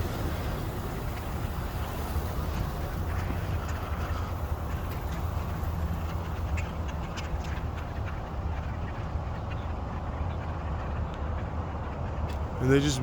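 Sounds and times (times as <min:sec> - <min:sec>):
flock of birds chattering: 0:00.0 - 0:13.0.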